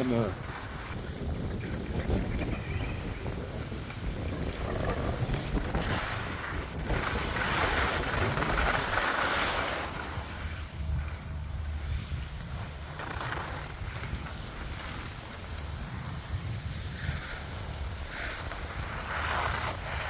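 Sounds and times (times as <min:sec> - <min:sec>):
skis scraping on snow: 0:00.0 - 0:20.0
wind buffeting microphone: 0:00.0 - 0:20.0.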